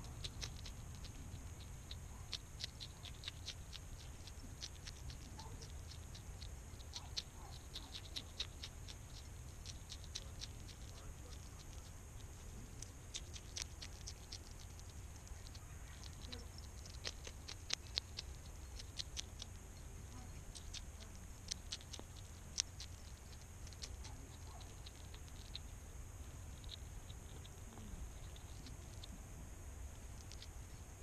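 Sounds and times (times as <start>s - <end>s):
hedgehog crunching food: 0.0s - 31.0s
steady low hum: 0.0s - 31.0s.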